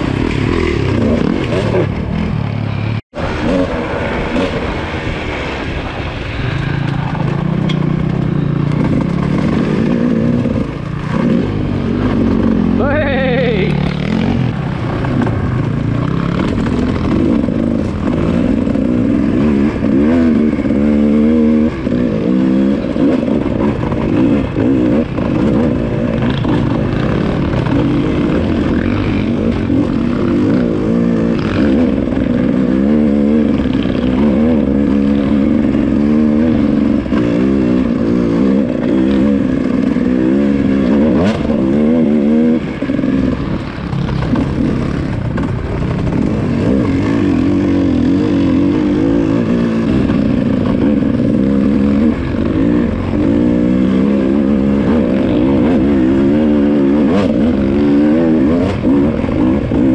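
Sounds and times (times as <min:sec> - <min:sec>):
dirt bike engine revving: 0:00.0 - 0:05.4, 0:06.4 - 0:59.9.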